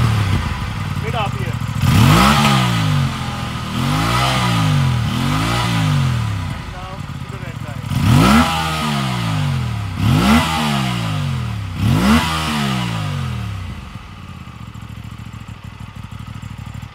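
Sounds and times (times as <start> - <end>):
motorcycle engine idling: 0.0 - 16.9
motorcycle engine revving: 0.0 - 16.9.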